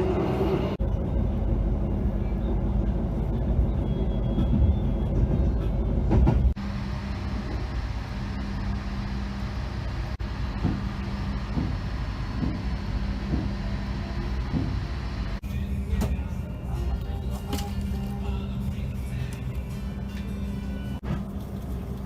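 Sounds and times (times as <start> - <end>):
passenger train rumbling: 0.0 - 22.0.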